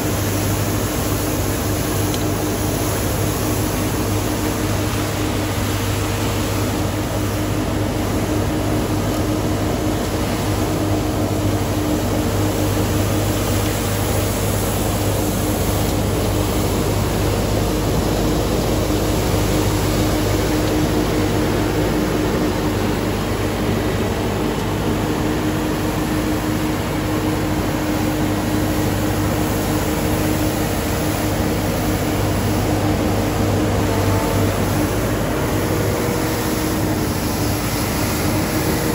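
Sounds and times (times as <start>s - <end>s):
street sweeper engine humming: 0.0s - 38.9s.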